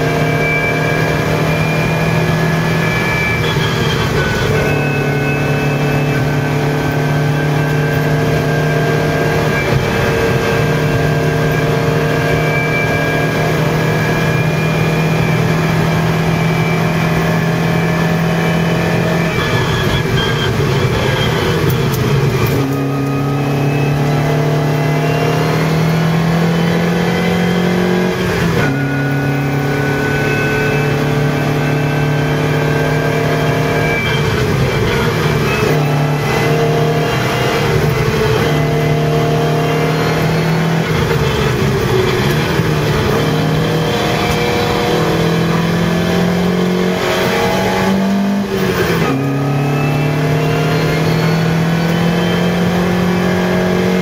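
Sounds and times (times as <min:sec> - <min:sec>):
car engine under load: 0:00.0 - 0:54.0.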